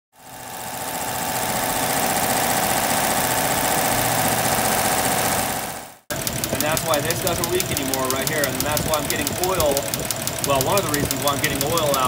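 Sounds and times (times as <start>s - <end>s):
engine running: 0.2s - 12.0s.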